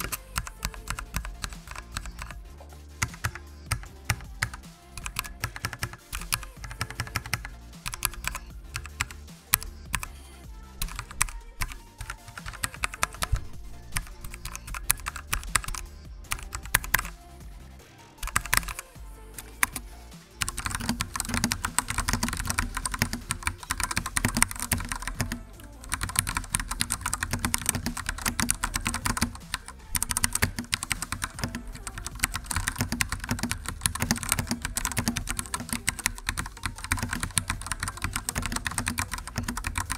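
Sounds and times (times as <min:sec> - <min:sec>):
keyboard typing clicks: 0:00.0 - 0:02.4, 0:03.0 - 0:10.2, 0:10.8 - 0:17.2, 0:18.2 - 0:39.9.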